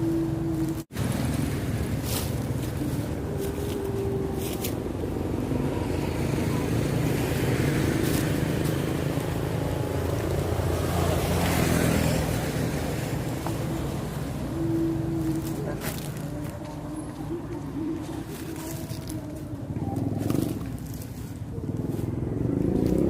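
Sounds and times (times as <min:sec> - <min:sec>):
motorbike engine running: 0:00.0 - 0:23.0
rushing road and air noise: 0:00.0 - 0:23.0.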